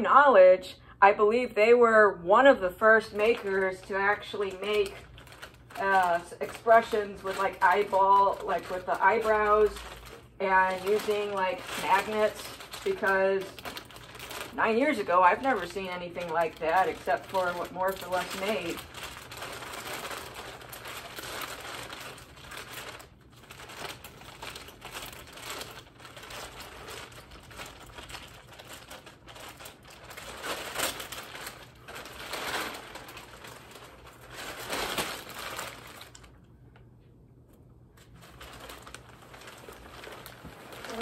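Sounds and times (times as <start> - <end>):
plastic packaging crinkling: 2.4 - 37.0, 37.8 - 41.0.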